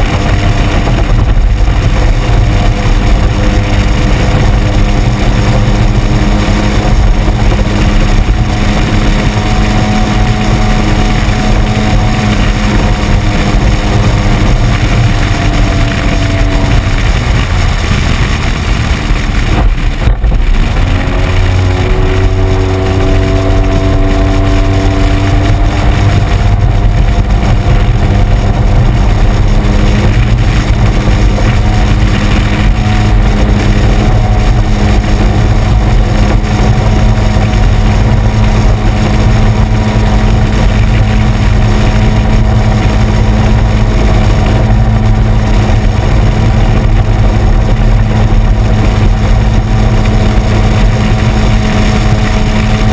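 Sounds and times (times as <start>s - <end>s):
outboard motor running: 0.0s - 52.9s
wind noise on microphone: 0.0s - 52.9s.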